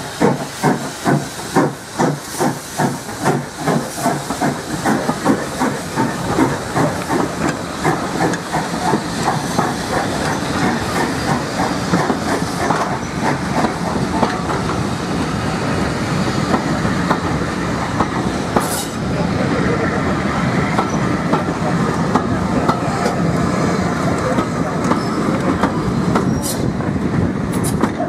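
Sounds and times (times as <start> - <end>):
steam locomotive exhaust chuffs: 0.0 - 28.0.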